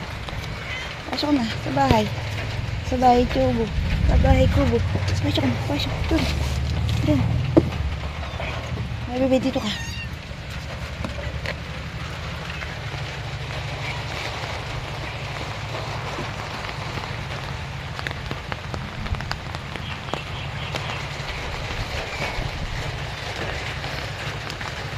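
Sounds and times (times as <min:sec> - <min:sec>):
low rumble: 0:00.0 - 0:24.9
raindrop ticks: 0:00.0 - 0:24.9
steady rain hissing: 0:00.0 - 0:24.9.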